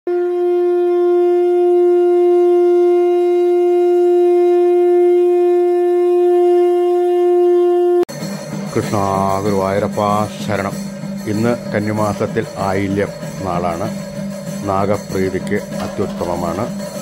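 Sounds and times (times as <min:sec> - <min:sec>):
sustained wind instrument note: 0:00.1 - 0:17.0.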